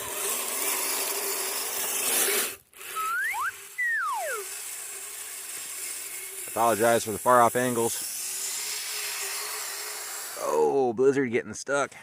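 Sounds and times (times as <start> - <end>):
electric motor whine: 0.0 - 10.6.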